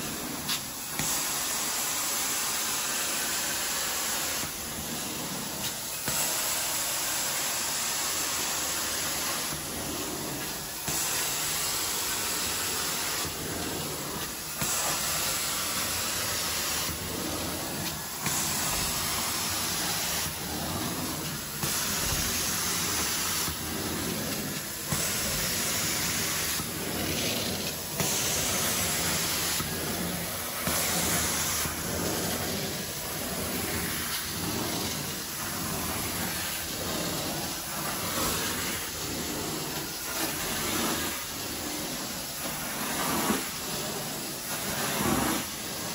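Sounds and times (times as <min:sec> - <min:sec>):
spray hiss: 0:00.0 - 0:45.9.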